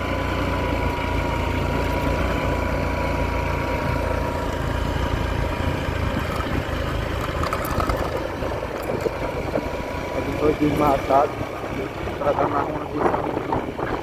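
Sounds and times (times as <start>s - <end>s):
tyres on muddy dirt road: 0.0s - 14.0s
vehicle engine running at low revs: 0.0s - 14.0s.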